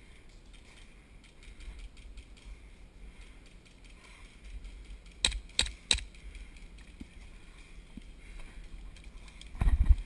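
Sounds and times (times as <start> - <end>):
handling clicks and rustles: 0.0 - 10.0.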